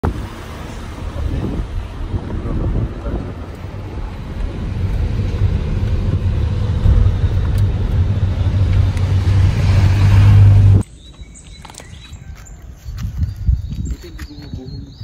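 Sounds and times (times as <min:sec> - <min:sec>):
vehicle engine rumbling: 0:00.0 - 0:12.3.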